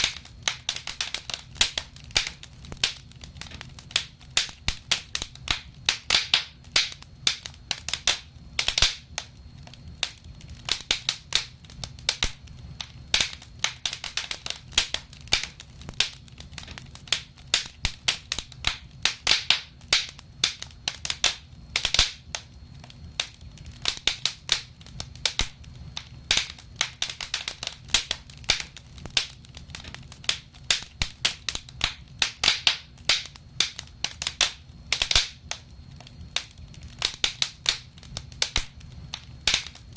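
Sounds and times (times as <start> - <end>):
rumble of flames: 0.0 - 39.9
wood fire crackling: 0.0 - 39.9.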